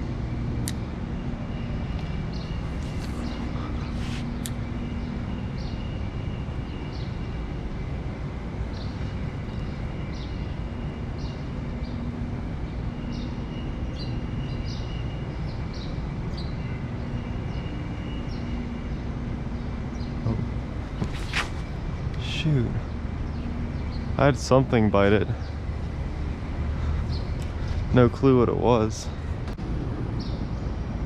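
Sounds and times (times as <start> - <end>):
birds chirping: 0.7 - 29.6.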